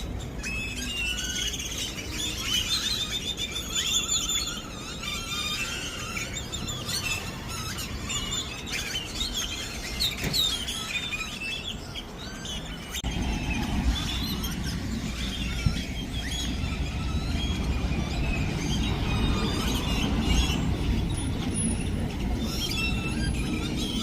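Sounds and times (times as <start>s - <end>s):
flock of birds chirping: 0.0s - 24.0s.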